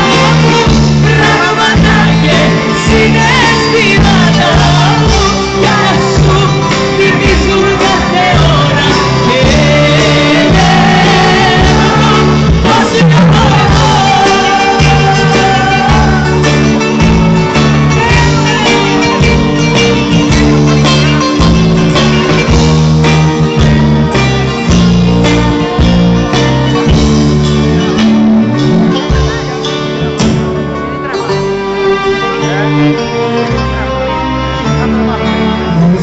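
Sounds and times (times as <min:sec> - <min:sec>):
live band playing pop music: 0:00.0 - 0:36.0.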